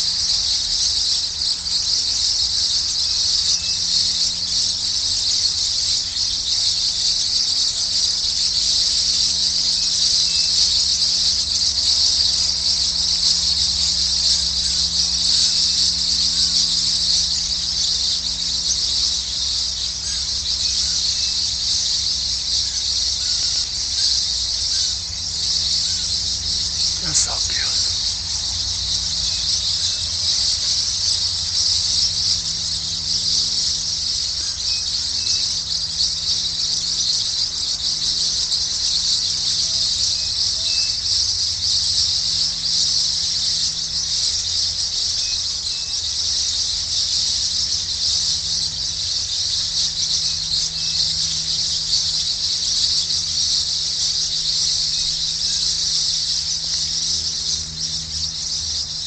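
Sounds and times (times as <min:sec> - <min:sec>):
shrill chorus of small animal calls: 0:00.0 - 0:59.0.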